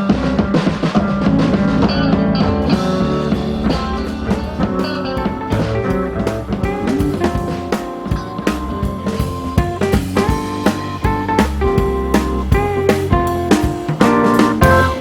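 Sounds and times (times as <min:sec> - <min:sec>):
drum kit: 0:00.0 - 0:15.0
electric guitar: 0:00.0 - 0:15.0.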